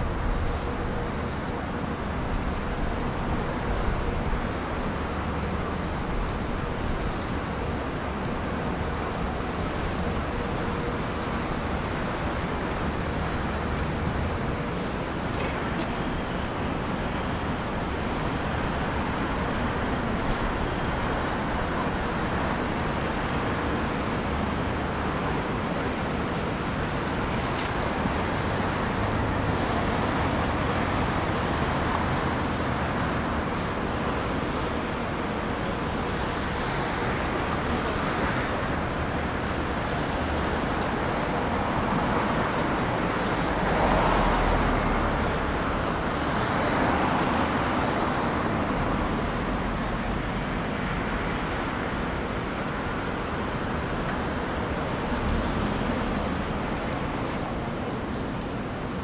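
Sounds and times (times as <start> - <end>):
city road traffic: 0.0 - 59.0.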